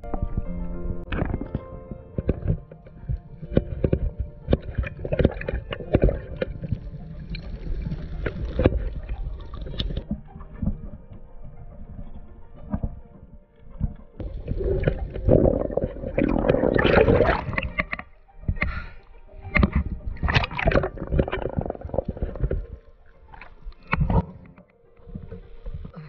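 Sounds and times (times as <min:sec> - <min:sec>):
water sloshing and splashing: 0:01.1 - 0:26.0.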